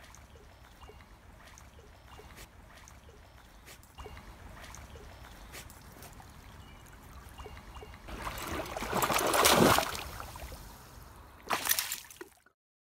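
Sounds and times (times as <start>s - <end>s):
water splashing and trickling: 0.0s - 12.6s.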